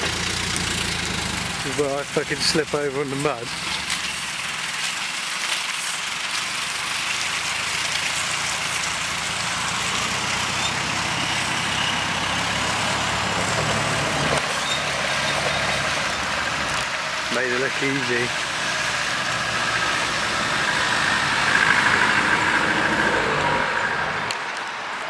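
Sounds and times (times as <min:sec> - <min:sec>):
car engine pulling through mud: 0:00.0 - 0:25.0.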